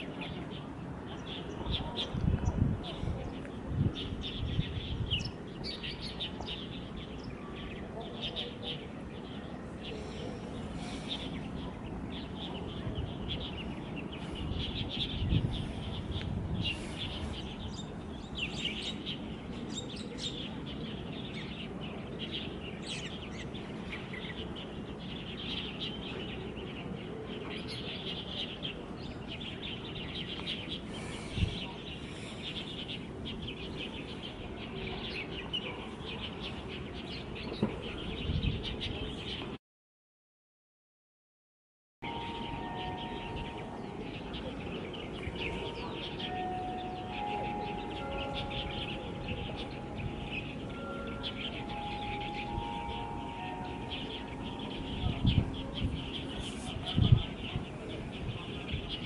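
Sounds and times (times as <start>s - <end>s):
small birds chirping: 0.0s - 39.6s, 42.1s - 59.0s.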